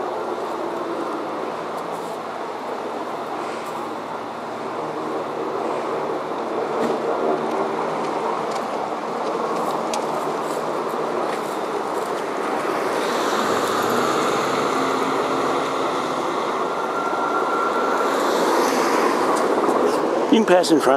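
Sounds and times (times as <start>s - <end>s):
helicopter drone: 0.0s - 20.9s.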